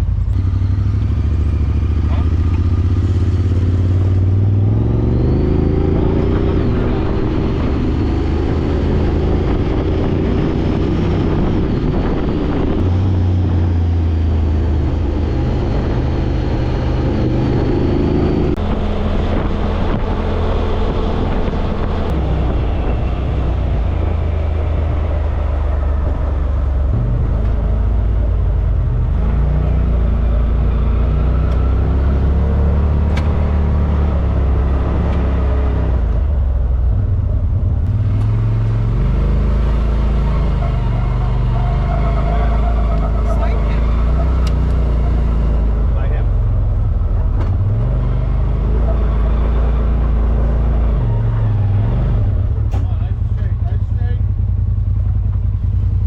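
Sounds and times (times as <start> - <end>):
utility vehicle engine revving: 0.0 - 56.0.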